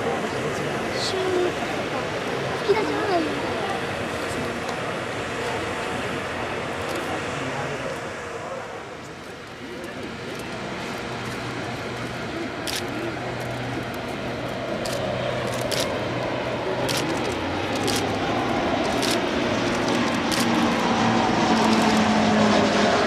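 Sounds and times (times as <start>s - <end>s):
turboprop aircraft droning: 0.0s - 23.0s.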